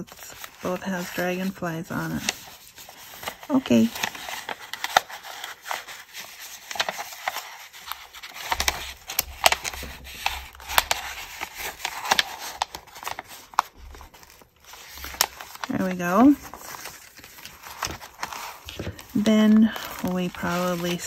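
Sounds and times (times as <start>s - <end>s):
paper tag rubbing and rustling: 0.0s - 21.0s.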